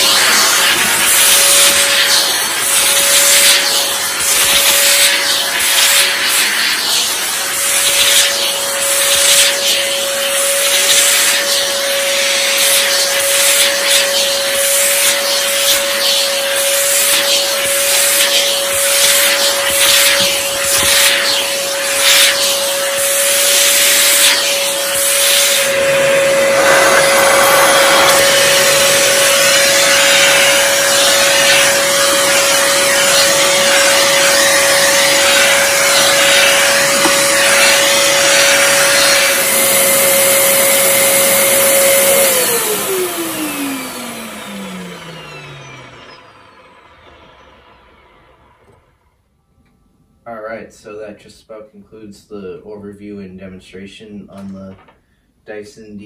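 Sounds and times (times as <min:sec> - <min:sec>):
upright vacuum cleaner running: 0:00.0 - 0:49.2.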